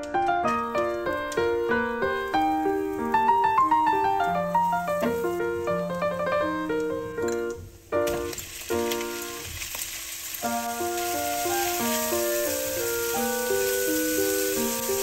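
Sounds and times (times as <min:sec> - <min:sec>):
light piano music: 0:00.0 - 0:15.0
beef sizzling in hot oil: 0:00.7 - 0:06.8, 0:07.7 - 0:15.0.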